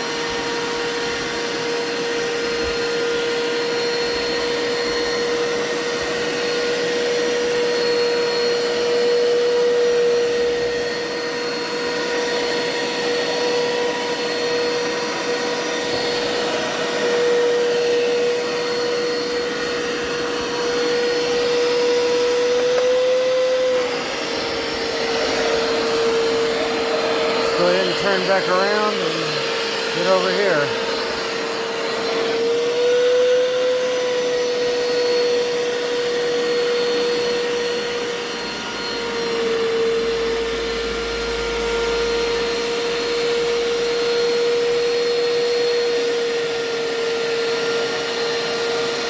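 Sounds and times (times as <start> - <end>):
carpet cleaner motor whining: 0.0 - 49.0.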